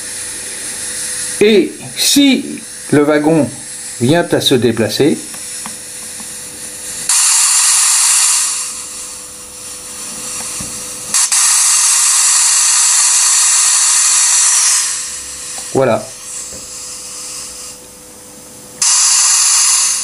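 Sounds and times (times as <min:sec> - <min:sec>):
loud steam hiss from speaker: 0:00.0 - 0:18.2, 0:18.8 - 0:20.0.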